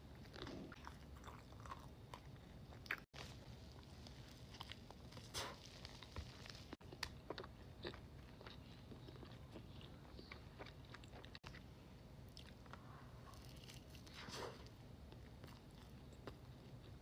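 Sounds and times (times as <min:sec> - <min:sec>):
crunchy bites and chewing: 0:00.2 - 0:11.7, 0:12.3 - 0:17.0.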